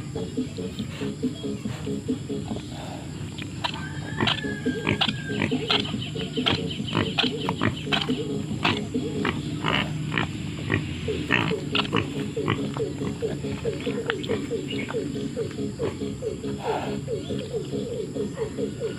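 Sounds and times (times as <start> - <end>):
pigs grunting: 0.0 - 18.9.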